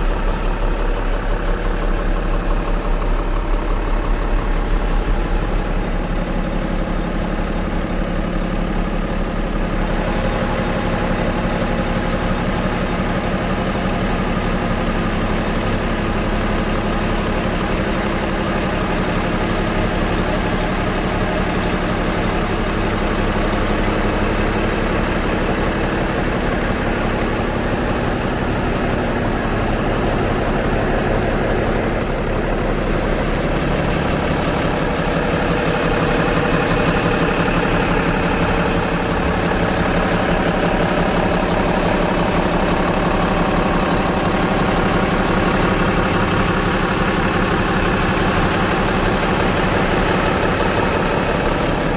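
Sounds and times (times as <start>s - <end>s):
excavator diesel engine idling: 0.0s - 51.9s.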